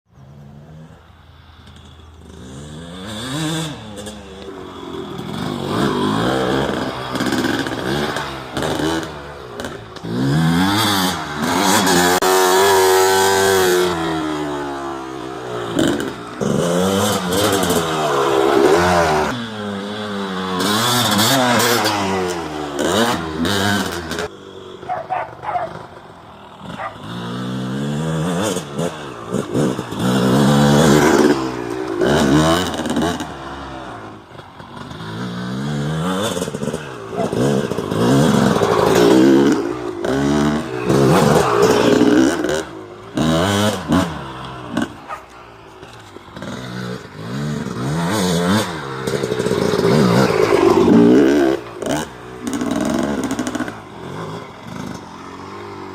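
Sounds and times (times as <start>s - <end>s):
dirt bike engine revving: 1.8s - 55.9s.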